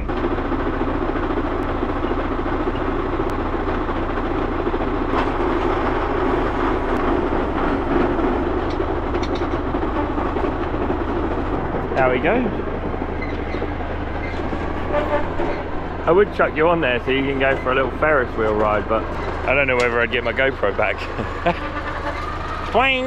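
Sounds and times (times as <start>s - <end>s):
machinery rumble: 0.0s - 23.0s.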